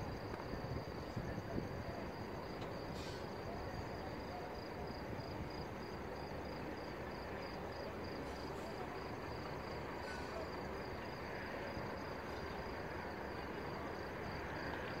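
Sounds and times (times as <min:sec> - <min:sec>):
crickets chirping: 0:00.0 - 0:15.0
low hum of city noise: 0:00.0 - 0:15.0.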